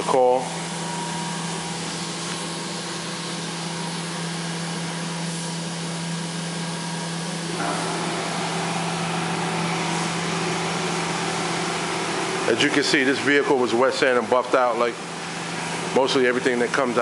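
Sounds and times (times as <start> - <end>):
machine humming with blower noise: 0.0 - 17.0.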